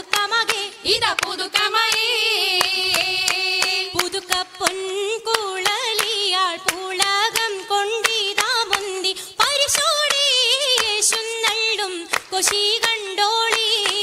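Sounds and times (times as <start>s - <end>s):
rhythmic hand claps: 0.0s - 14.0s.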